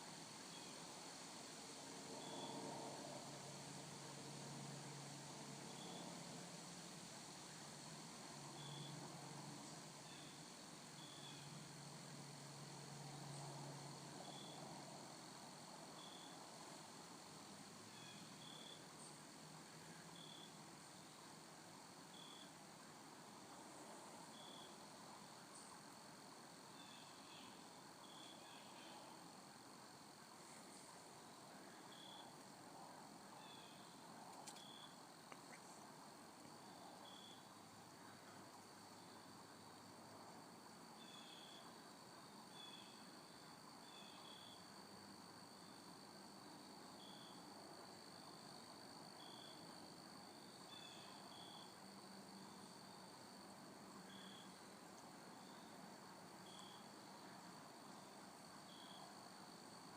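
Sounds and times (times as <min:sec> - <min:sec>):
insect chirping: 0:00.1 - 0:59.9.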